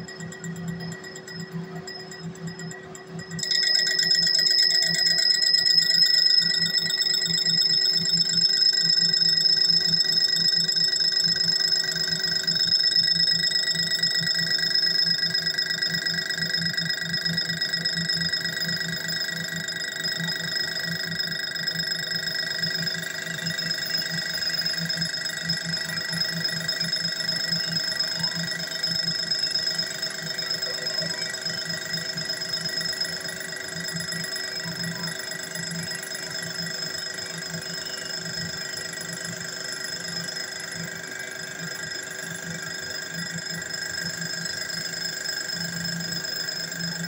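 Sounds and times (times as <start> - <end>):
metal lathe ringing whine: 0.0 - 47.0.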